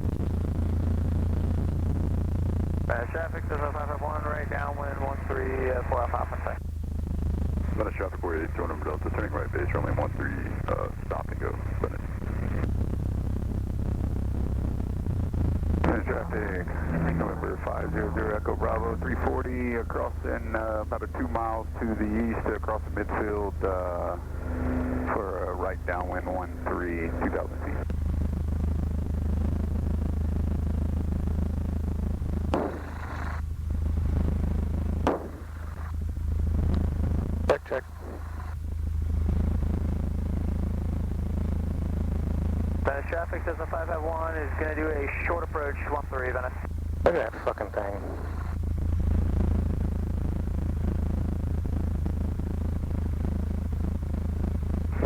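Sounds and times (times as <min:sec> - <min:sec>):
aircraft engine droning: 0:00.0 - 0:55.0
radio click and hiss: 0:00.3 - 0:12.8, 0:14.8 - 0:28.6, 0:32.5 - 0:36.0, 0:36.6 - 0:55.0.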